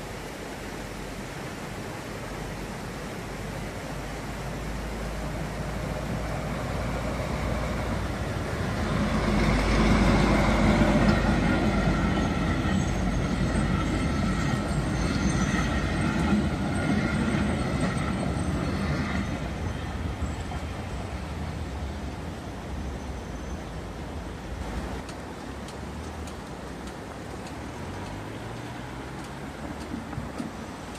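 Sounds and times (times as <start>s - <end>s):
diesel locomotive passing: 3.8s - 30.9s
train carriages rolling past: 3.8s - 30.9s.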